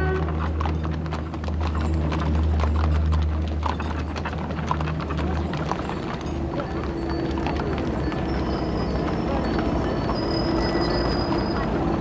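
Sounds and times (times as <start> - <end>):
hooves clip-clopping on pavement: 0.0 - 12.0.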